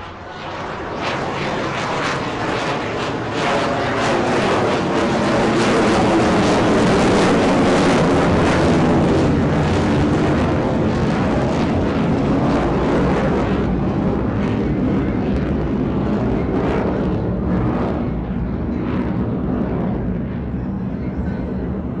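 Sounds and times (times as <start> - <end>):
jet engine rushing rumble: 0.0 - 22.0.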